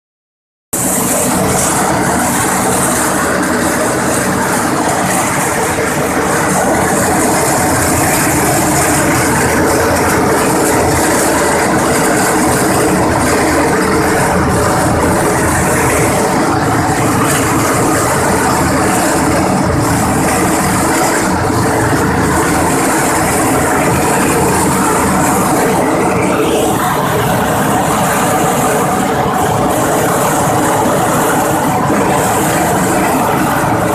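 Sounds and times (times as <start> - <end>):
sieving machine humming and rattling: 0.8 - 33.9.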